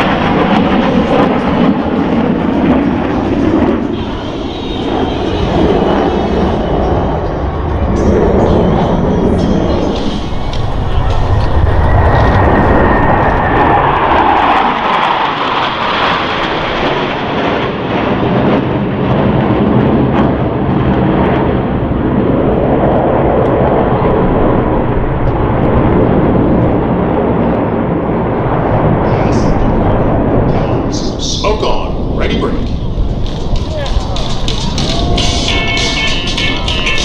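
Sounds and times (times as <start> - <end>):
jets flying by: 0.0 - 37.0.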